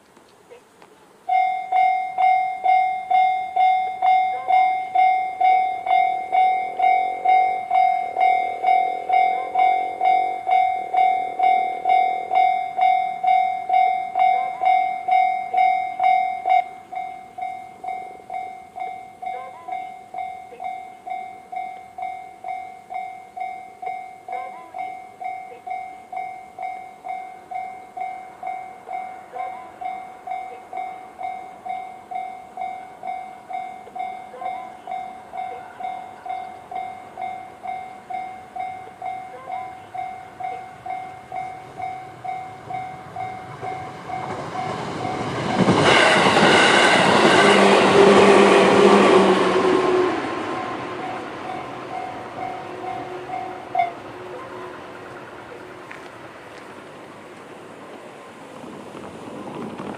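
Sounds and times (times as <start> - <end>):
electric train passing: 0.0 - 59.9
level crossing alarm bell: 1.3 - 54.8.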